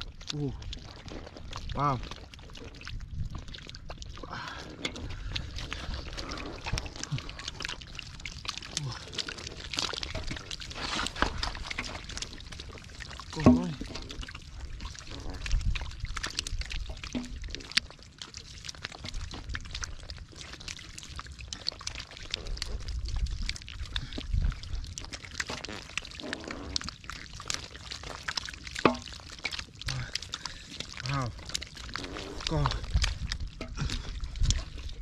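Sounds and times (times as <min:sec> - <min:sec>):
small sharp wet clicks: 0:00.0 - 0:35.0
wet mud squelching and slapping: 0:00.0 - 0:35.0.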